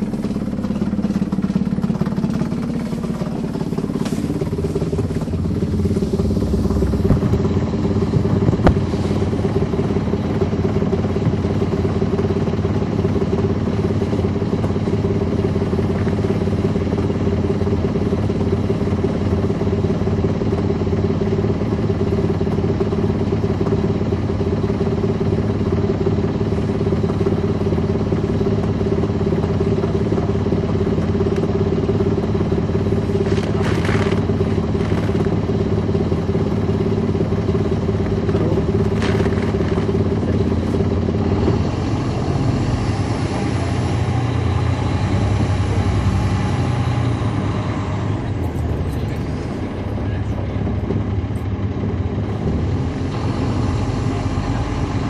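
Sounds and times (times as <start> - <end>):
diesel bus engine running: 0.0 - 55.0.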